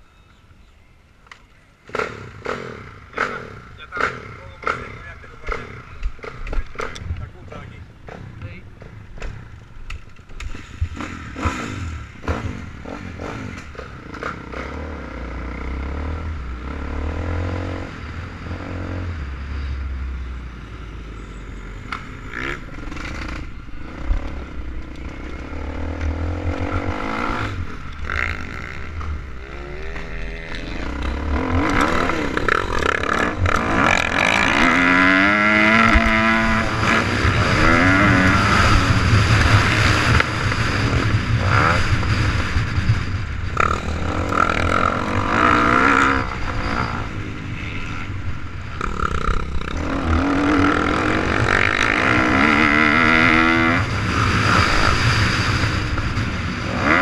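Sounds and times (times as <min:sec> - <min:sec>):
dirt bike engine revving: 0:01.8 - 0:07.1, 0:10.4 - 0:57.0.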